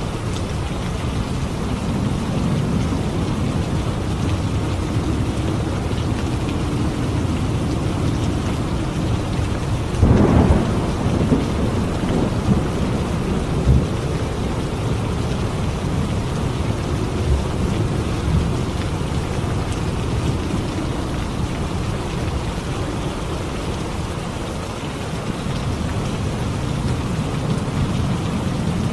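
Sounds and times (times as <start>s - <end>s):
heavy rain: 0.0s - 28.9s
thunder clap and rumbles: 0.3s - 24.1s.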